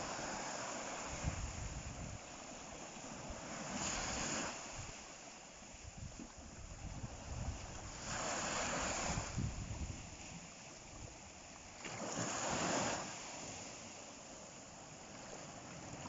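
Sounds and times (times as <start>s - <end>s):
sea waves washing on shore: 0.0s - 16.0s
surf surges: 0.0s - 16.0s.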